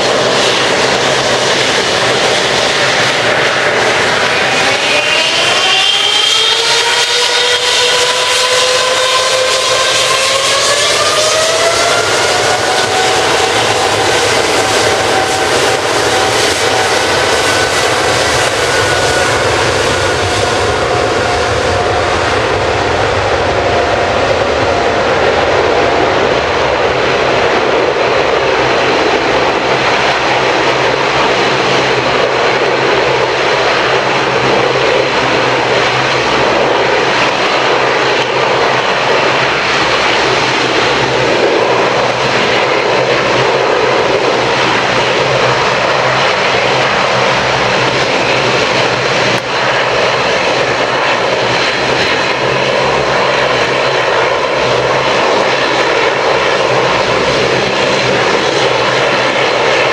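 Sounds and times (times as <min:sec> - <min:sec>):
high engine whine: 0:00.0 - 0:59.9
jet engines roaring: 0:00.0 - 0:59.9.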